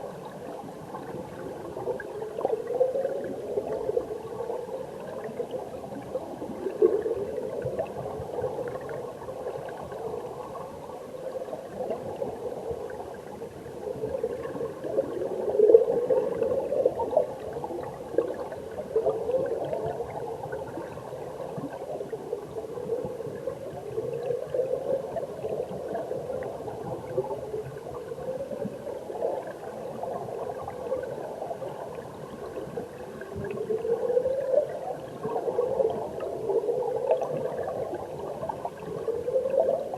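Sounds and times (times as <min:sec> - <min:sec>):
stream water heard underwater: 0:00.0 - 0:39.9.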